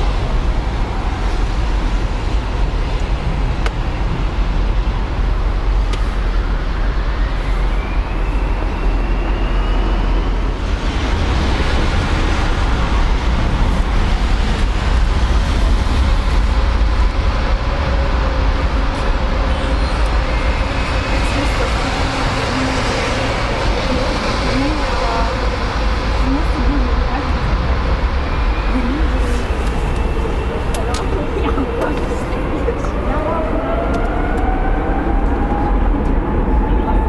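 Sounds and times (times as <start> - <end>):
jet engines at takeoff thrust: 0.0 - 37.0
jet engines running loud: 0.0 - 37.0.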